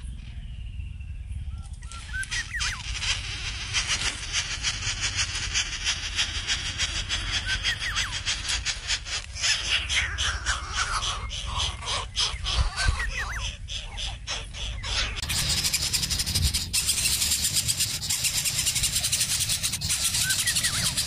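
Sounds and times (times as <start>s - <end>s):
low wind rumble: 0.0s - 21.0s
nestlings rasping begging calls: 1.8s - 21.0s.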